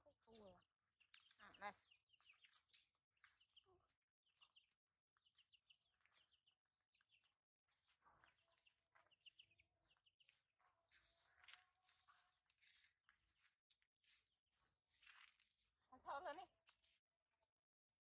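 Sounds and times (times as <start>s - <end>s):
faint bird chirping: 0.0s - 14.8s.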